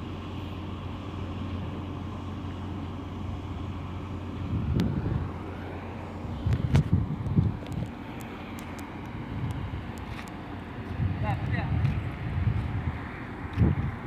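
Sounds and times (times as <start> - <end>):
ship's engine droning: 0.0 - 14.0.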